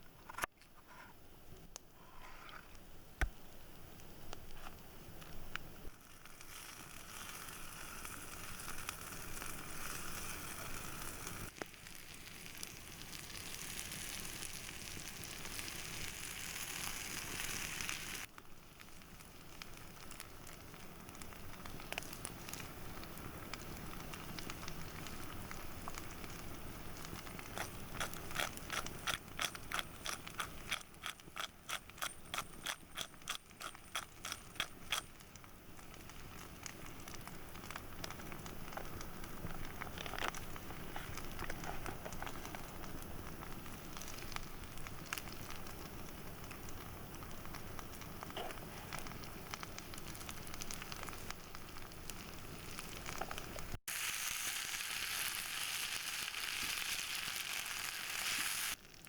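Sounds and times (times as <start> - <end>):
campfire crackling: 1.2 - 59.0.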